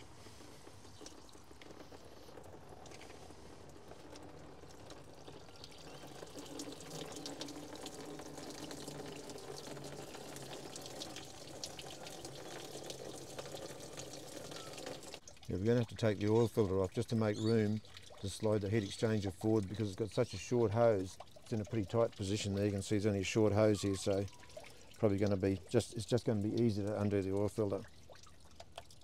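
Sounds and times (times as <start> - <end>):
liquid trickling into container: 0.0 - 29.0.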